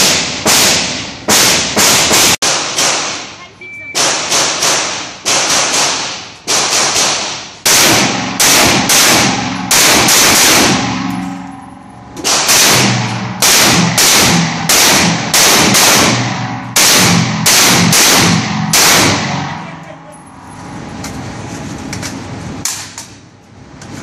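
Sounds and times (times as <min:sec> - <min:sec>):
rifle shots echoing: 0:00.0 - 0:19.9.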